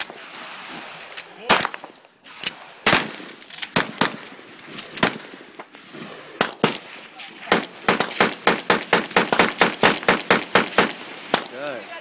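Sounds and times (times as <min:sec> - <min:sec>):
gunshots: 0:00.0 - 0:12.0.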